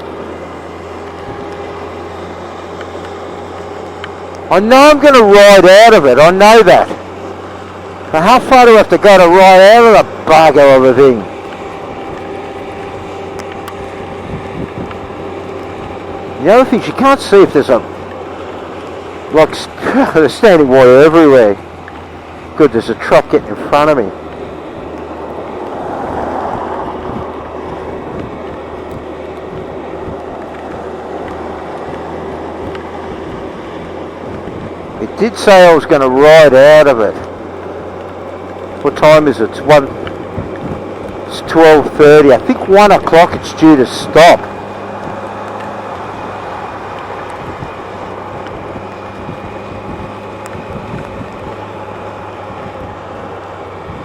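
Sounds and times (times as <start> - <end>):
motorcycle engine drone: 0.0 - 54.0
wind and rain rushing: 0.0 - 54.0.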